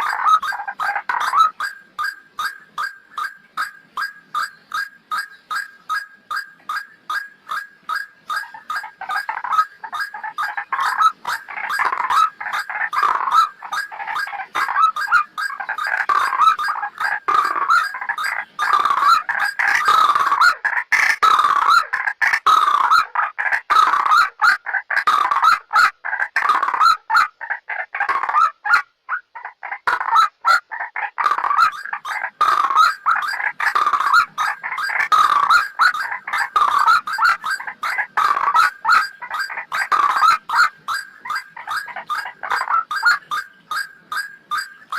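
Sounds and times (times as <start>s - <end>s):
bird calling repeated notes: 0.0s - 44.9s.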